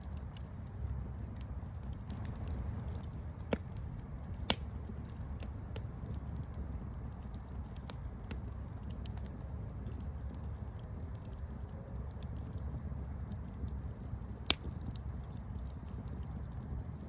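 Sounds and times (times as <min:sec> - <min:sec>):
burning wood crackling and popping: 0:00.0 - 0:17.0
low rumble of flame: 0:00.0 - 0:17.0.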